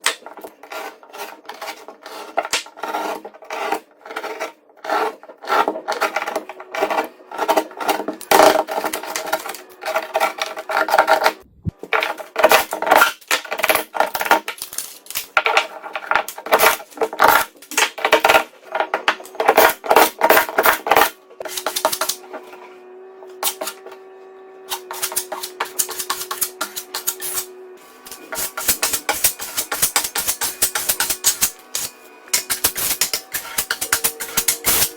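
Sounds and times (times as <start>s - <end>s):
hand tools scraping drywall: 0.0s - 24.0s, 24.6s - 34.9s
quiet background music: 4.7s - 13.2s, 13.8s - 34.9s.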